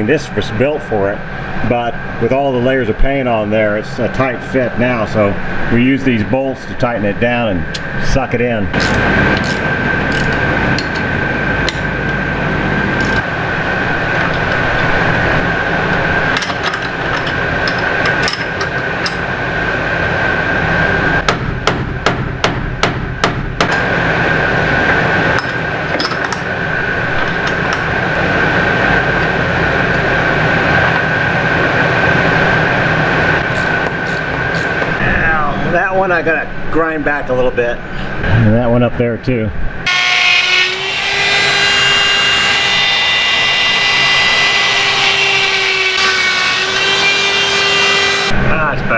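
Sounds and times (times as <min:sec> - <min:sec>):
steady hum with high tone: 0:00.0 - 0:48.9.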